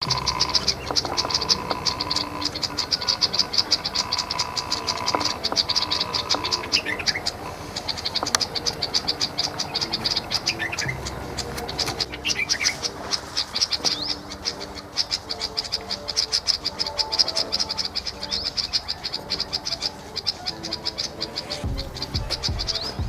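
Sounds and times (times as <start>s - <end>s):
high-pitched rattling calls: 0.0s - 23.0s.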